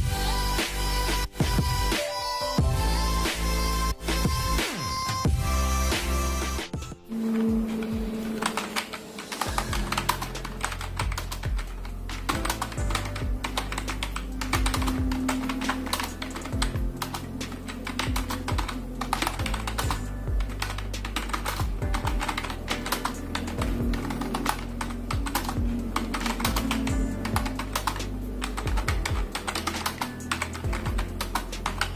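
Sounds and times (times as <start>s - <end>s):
background music with bass: 0.0s - 8.6s, 9.4s - 31.9s
fast keyboard typing: 2.7s - 31.9s.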